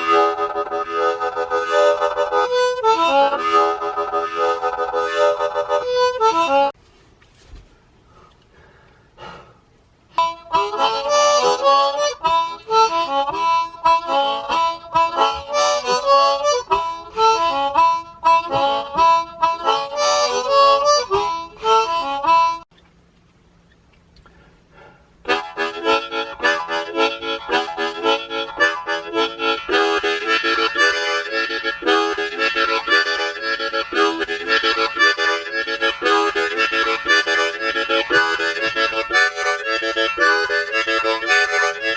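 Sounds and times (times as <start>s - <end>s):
harmonica playing: 0.0s - 6.8s, 10.1s - 22.7s, 25.2s - 41.9s.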